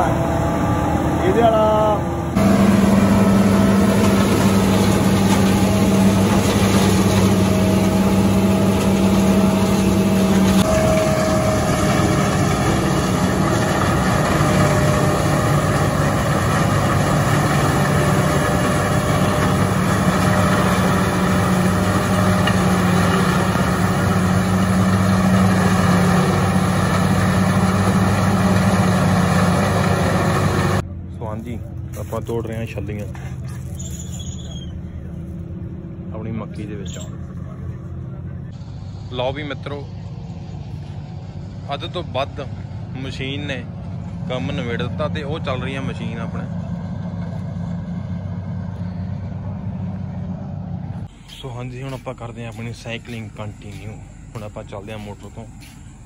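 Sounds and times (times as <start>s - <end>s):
forage harvester engine under load: 0.0s - 56.0s
tractor engine: 0.0s - 56.0s.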